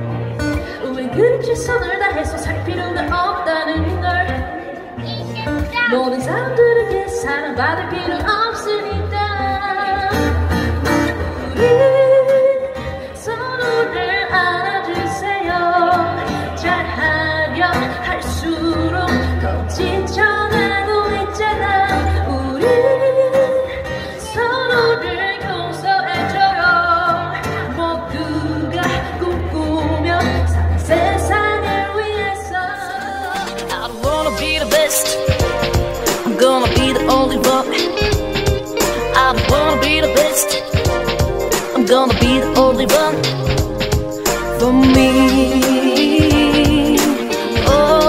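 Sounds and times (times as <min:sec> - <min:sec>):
acoustic guitar: 0:00.0 - 0:48.0
woman singing pop ballad: 0:00.4 - 0:05.0, 0:05.8 - 0:48.0.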